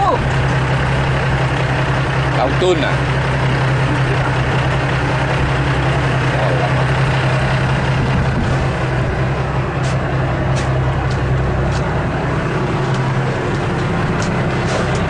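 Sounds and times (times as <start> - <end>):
boat engine humming: 0.0 - 15.0
wind: 0.0 - 15.0.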